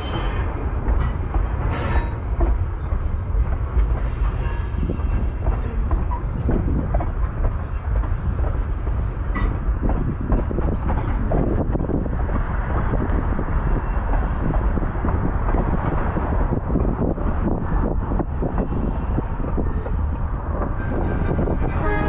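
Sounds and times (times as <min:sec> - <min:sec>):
clanks and rattles of wheels: 0:00.0 - 0:22.0
locomotive rumbling along track: 0:00.0 - 0:22.0
wind on microphone: 0:00.0 - 0:22.0.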